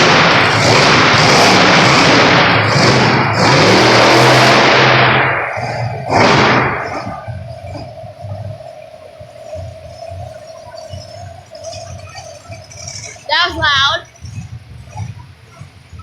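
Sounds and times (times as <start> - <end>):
truck engine running at high revs: 0.0 - 16.0.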